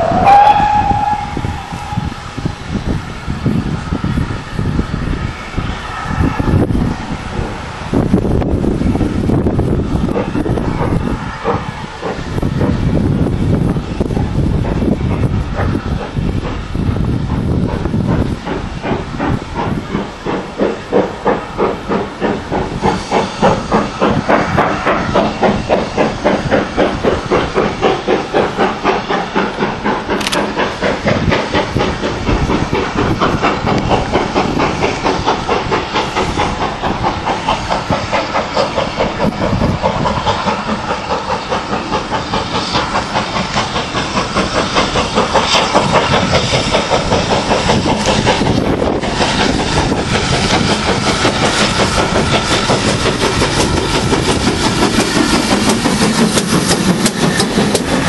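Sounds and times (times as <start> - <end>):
steam hissing: 0.0 - 58.0
steam locomotive exhaust beats: 0.0 - 58.0.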